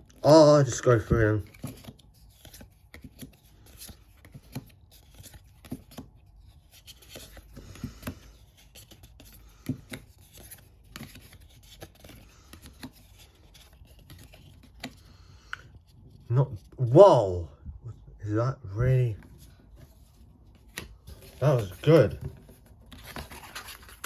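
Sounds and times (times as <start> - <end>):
cards sliding and rustling: 0.1 - 16.8, 19.2 - 24.0.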